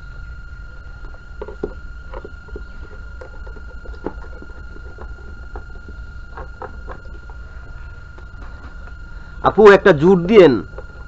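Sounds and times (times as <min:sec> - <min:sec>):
low hum: 0:00.0 - 0:11.0
steady high whine: 0:00.0 - 0:11.0.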